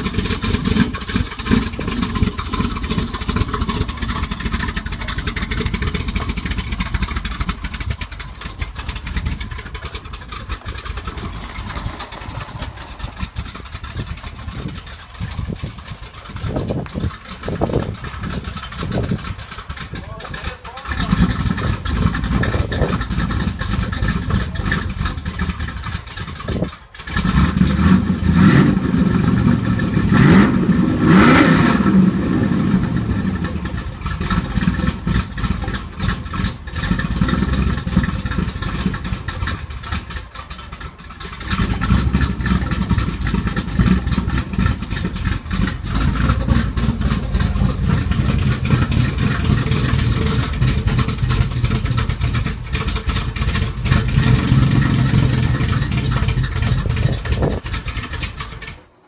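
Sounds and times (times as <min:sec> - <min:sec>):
car engine revving: 0:00.0 - 0:58.8.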